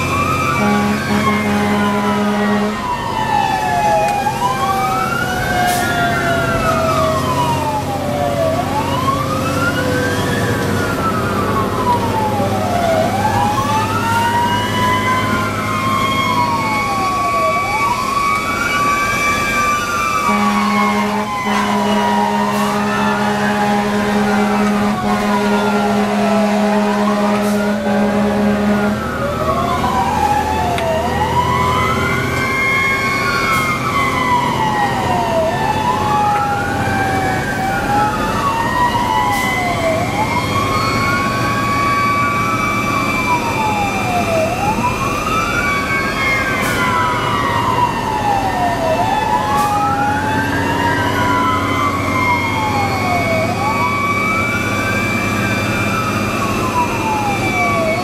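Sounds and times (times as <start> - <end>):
fire engine siren wailing: 0.0 - 58.0
second siren tone sweeping: 0.0 - 58.0.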